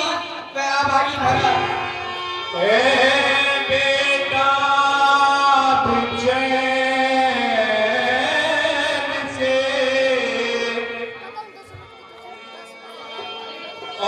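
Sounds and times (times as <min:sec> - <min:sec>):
person singing into a microphone: 0:00.0 - 0:11.9.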